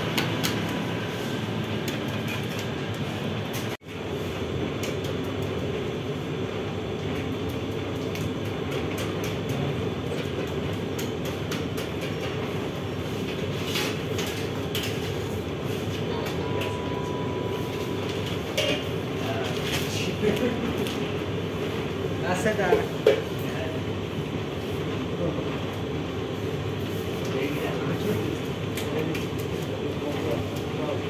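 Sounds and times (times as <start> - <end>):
bread oven rumbling: 0.0 - 31.0.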